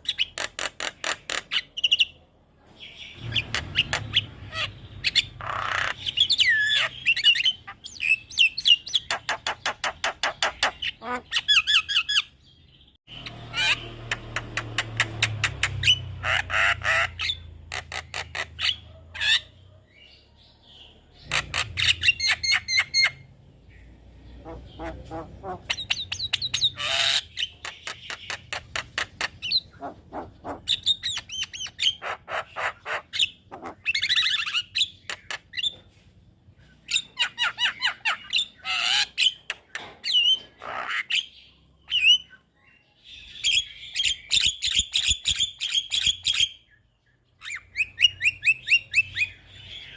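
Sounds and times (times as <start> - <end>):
bird chattering and squawking: 0.0 - 2.3, 2.9 - 12.5, 13.1 - 20.2, 20.8 - 49.9.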